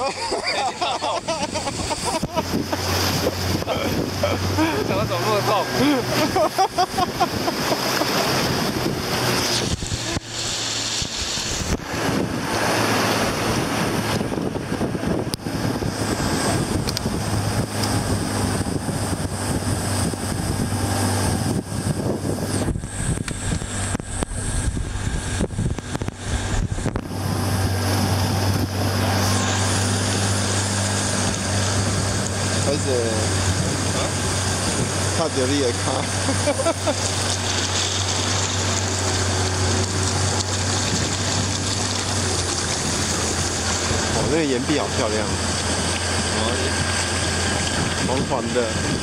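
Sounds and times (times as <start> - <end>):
rushing river water: 0.0 - 49.0
steady low hum: 0.0 - 49.0
wind buffeting microphone: 0.7 - 49.0.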